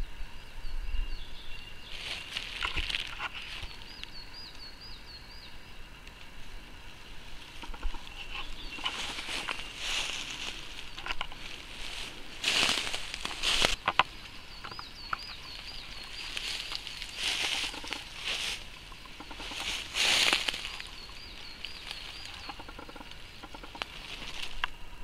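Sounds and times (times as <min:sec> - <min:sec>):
small songbird singing: 0:00.0 - 0:06.1, 0:07.5 - 0:25.0
forest ambience: 0:00.0 - 0:25.0.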